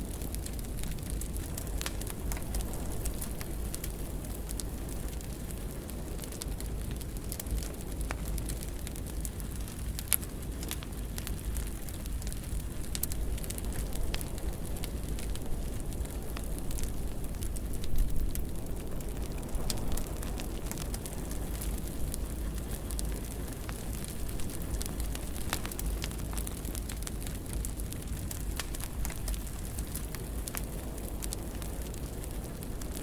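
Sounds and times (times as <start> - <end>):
fire crackling in fireplace: 0.0 - 33.0.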